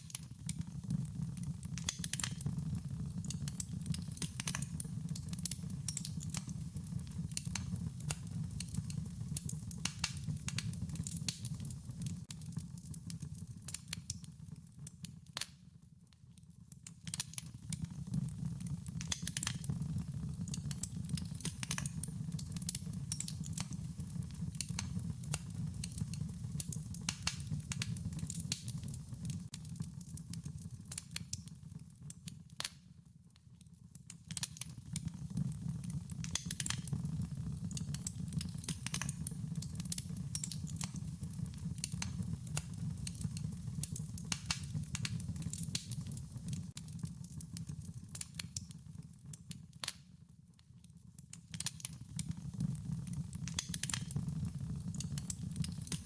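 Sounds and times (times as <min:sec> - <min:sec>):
wood fire crackling: 0:00.0 - 0:15.6, 0:16.7 - 0:32.8, 0:34.0 - 0:50.1, 0:51.2 - 0:56.0.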